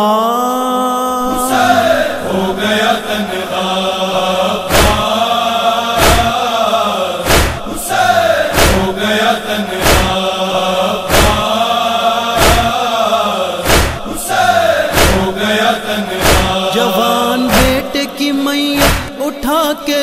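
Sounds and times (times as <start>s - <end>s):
group of voices chanting a lament: 0.0s - 20.0s
rhythmic chest-beating: 1.3s - 19.2s.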